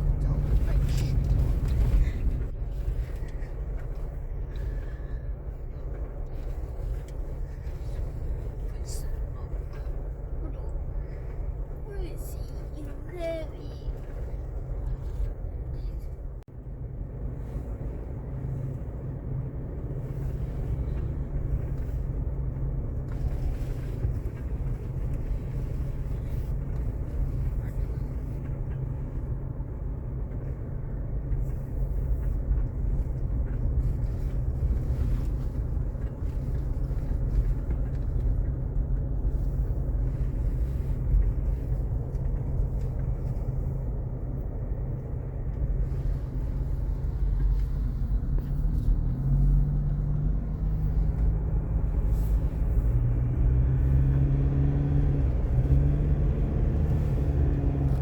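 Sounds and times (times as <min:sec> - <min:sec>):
engine hum: 0:00.0 - 0:58.0
vehicle low rumble: 0:00.0 - 0:58.0.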